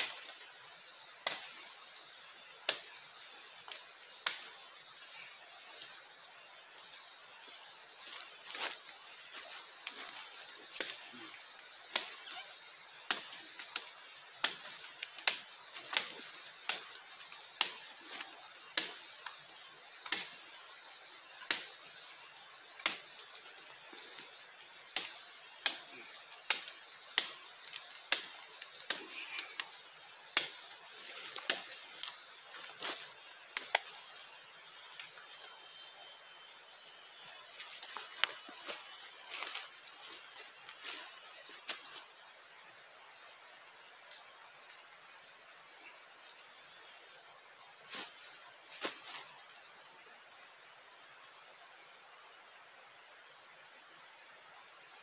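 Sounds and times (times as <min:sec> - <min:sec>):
rainforest hiss: 0:00.0 - 0:55.0.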